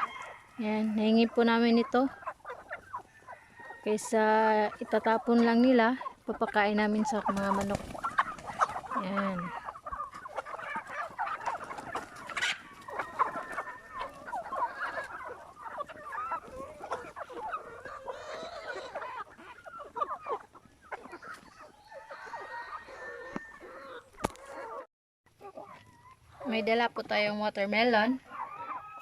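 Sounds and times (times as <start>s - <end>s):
chickens clucking and chirping: 0.0s - 29.0s.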